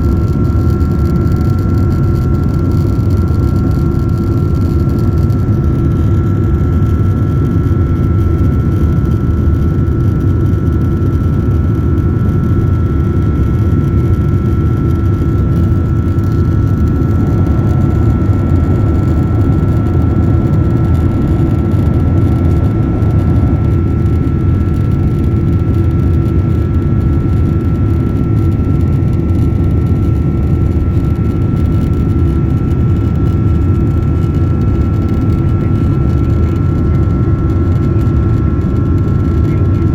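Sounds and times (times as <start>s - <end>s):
high whine: 0.0s - 39.9s
jet engine cabin rumble: 0.0s - 39.9s.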